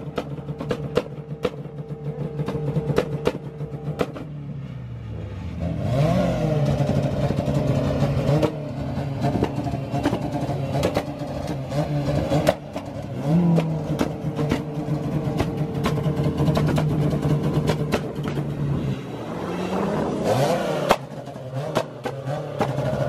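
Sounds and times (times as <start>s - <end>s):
exhaust pops and bangs: 0.0s - 4.4s, 6.6s - 18.8s, 20.8s - 23.0s
car engine on rev limiter: 0.0s - 23.0s.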